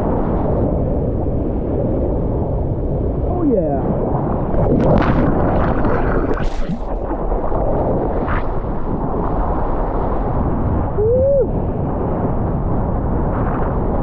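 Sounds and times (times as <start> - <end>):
surf and wind rumble on microphone: 0.0 - 14.0.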